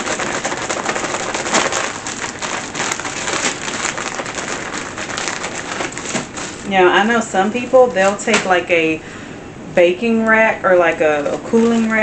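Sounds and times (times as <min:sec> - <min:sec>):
plastic bag rustling: 0:00.0 - 0:09.0, 0:10.8 - 0:12.0.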